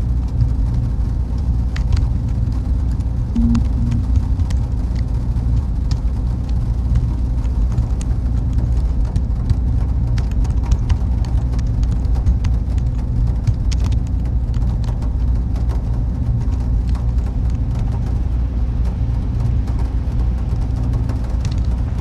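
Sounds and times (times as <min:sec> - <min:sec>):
faint constant tone: 0:00.0 - 0:22.0
machine and fan hum: 0:00.0 - 0:22.0
light ticks: 0:01.4 - 0:18.2, 0:20.5 - 0:22.0.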